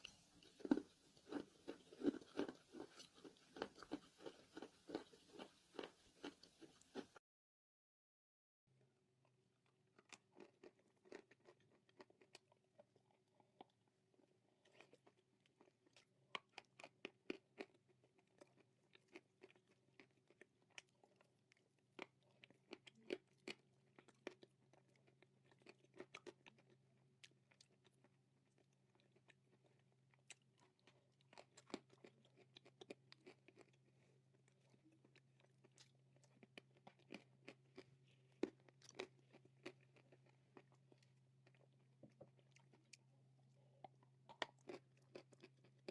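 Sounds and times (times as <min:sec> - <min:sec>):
crisp chewing crunches: 0:00.0 - 0:07.2, 0:09.7 - 0:43.1, 0:43.7 - 0:45.9.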